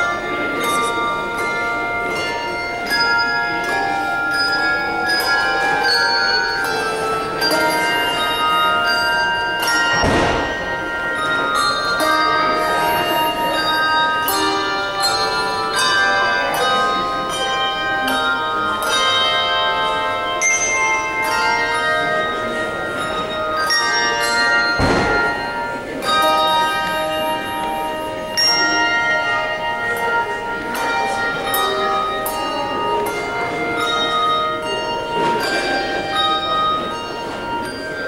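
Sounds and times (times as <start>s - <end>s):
handbell choir playing: 0.0s - 38.0s.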